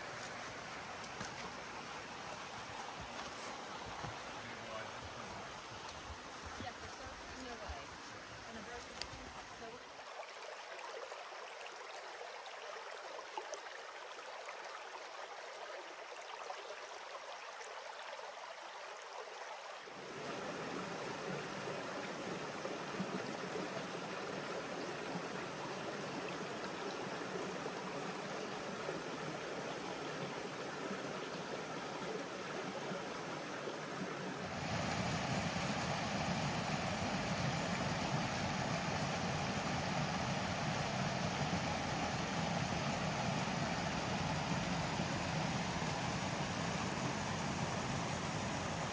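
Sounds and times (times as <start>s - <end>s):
creek flowing over stones: 0.0s - 48.9s
small cascade rushing: 0.0s - 48.9s.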